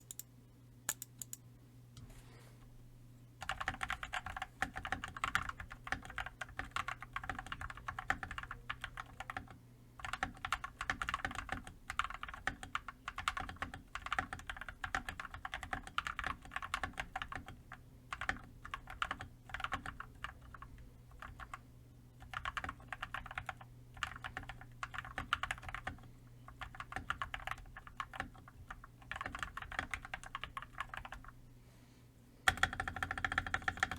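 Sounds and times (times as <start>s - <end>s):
fast typing on mechanical keyboard: 3.4s - 21.6s, 22.2s - 31.4s, 32.5s - 33.9s.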